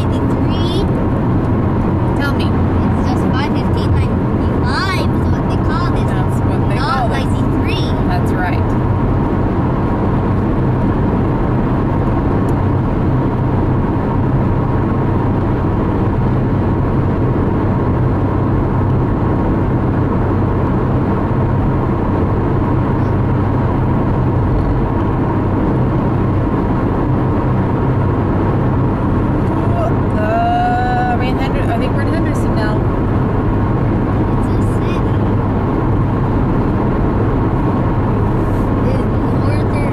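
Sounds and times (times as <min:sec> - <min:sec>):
car engine and tyre drone: 0:00.0 - 0:39.9.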